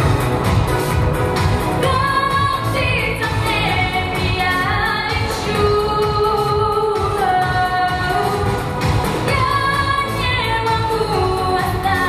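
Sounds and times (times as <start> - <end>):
pop backing track: 0.0 - 12.0
woman singing into microphone: 1.8 - 12.0.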